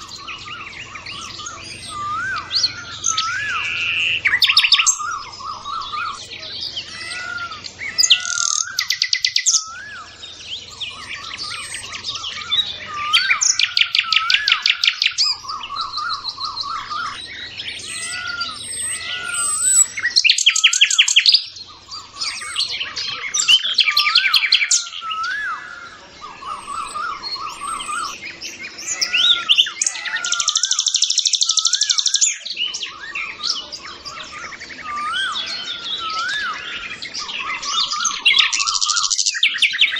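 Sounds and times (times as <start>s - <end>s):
birds chirping and singing: 0.0s - 39.9s
fast bird trills: 0.0s - 39.9s
whistled bird notes: 0.0s - 39.9s.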